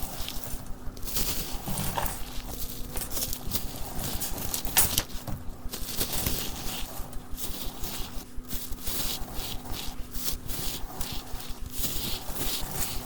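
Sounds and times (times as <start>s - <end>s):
dry soap crunching: 0.0s - 13.0s.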